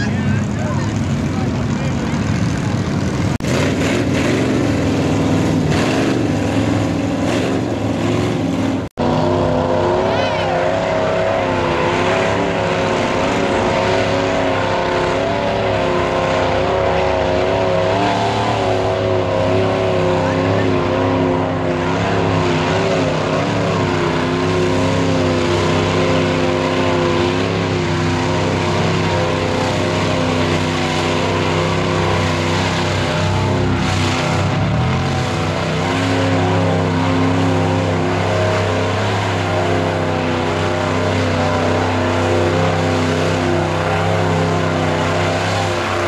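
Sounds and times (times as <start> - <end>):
mud and water splashing: 0.0 - 46.0
truck engine revving: 0.0 - 46.0.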